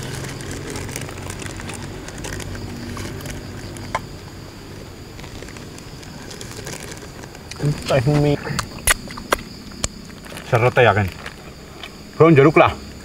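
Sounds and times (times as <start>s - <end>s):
campfire crackling: 0.0s - 13.0s
steady low hum: 0.0s - 13.0s.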